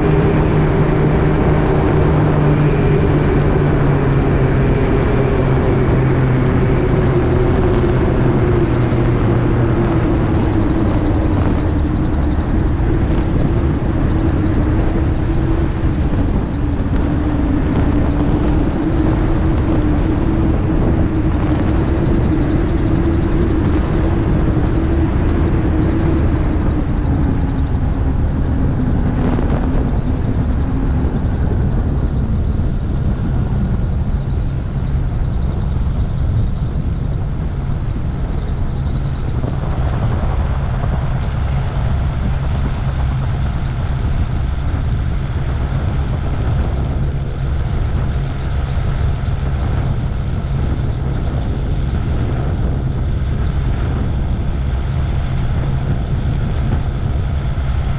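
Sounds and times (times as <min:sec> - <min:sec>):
gyroplane engine and propeller drone: 0:00.0 - 0:57.9
rushing wind: 0:00.0 - 0:57.9.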